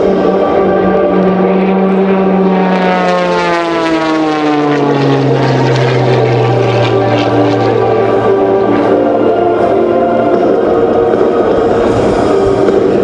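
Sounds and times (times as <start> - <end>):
propeller plane engine running: 0.0 - 13.0.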